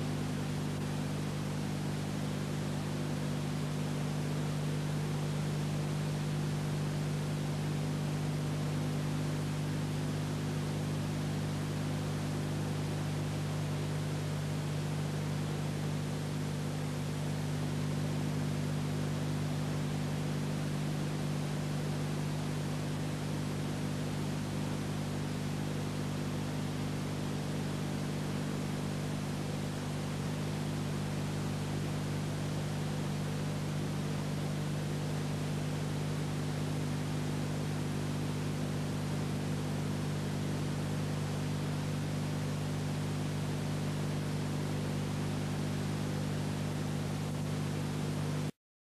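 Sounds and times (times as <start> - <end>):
constant low hum: 0.0 - 48.5.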